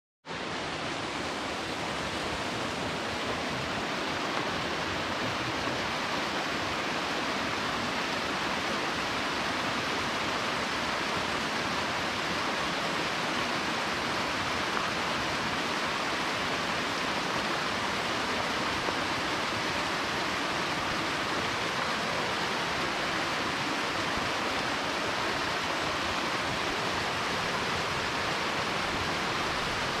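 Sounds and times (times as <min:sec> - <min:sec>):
small waterfall splashing: 0:00.3 - 0:30.0.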